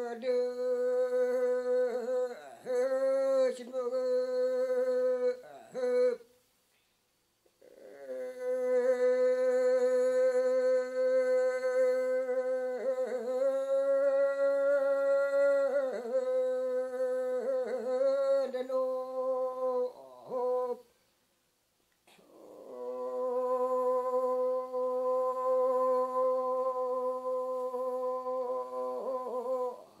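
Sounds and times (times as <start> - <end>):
solo voice chanting: 0.0 - 6.5, 7.5 - 21.0, 22.1 - 30.0.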